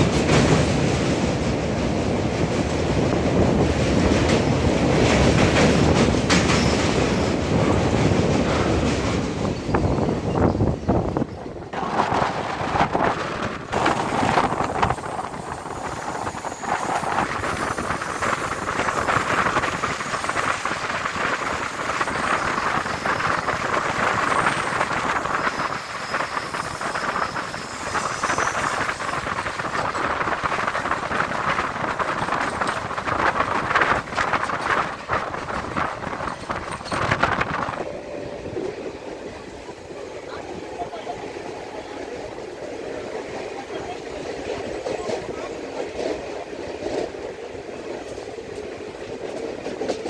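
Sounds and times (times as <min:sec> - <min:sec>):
wheel-on-rail rush: 0:00.0 - 0:50.0
wind: 0:00.0 - 0:50.0.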